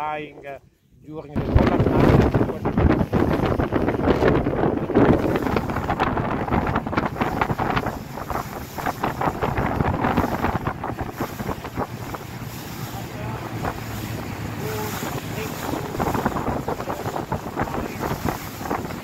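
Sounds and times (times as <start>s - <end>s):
boat engine hum: 0.0s - 19.0s
wind buffeting microphone: 0.0s - 19.0s
water wash: 1.3s - 19.0s.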